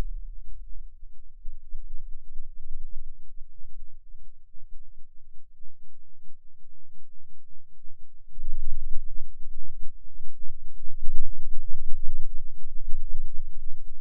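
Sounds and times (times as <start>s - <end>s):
deep pulsing rumble: 0.0s - 14.0s.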